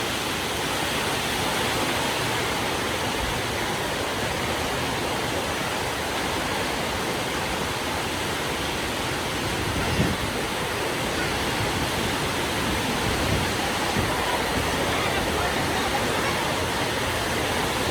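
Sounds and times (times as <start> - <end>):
heavy rain: 0.0 - 17.9.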